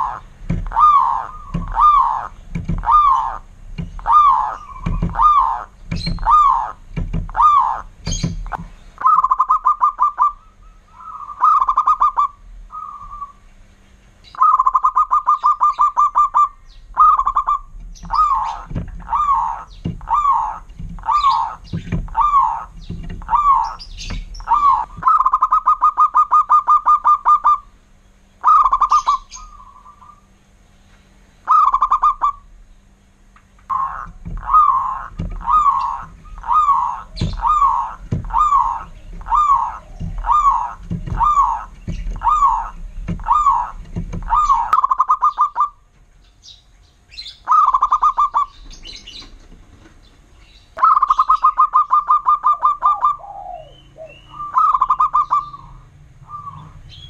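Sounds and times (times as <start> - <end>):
dove cooing: 0.0 - 13.5, 14.3 - 27.8, 28.4 - 30.4, 31.4 - 32.5, 33.7 - 45.9, 47.4 - 49.4, 50.8 - 57.0
dove rolling trills: 0.0 - 13.5, 14.3 - 30.5, 31.4 - 32.6, 33.6 - 57.0.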